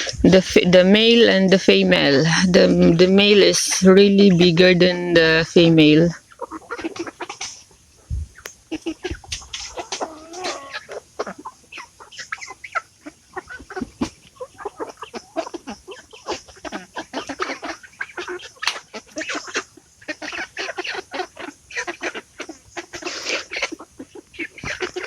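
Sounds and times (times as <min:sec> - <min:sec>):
young chickens clucking: 0:00.0 - 0:25.0.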